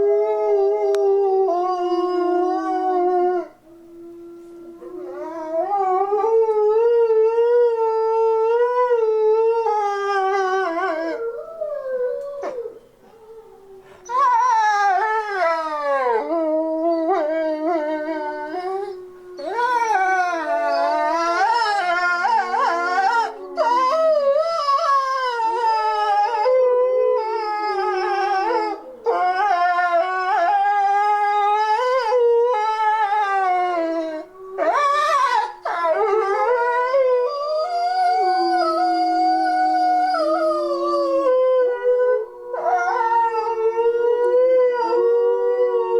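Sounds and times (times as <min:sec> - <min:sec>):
wolves howling in chorus: 0:04.4 - 0:45.9.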